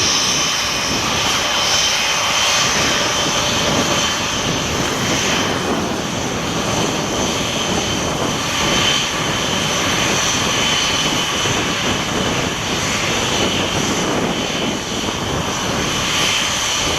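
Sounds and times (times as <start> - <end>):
jet engines running with whine: 0.0 - 16.9.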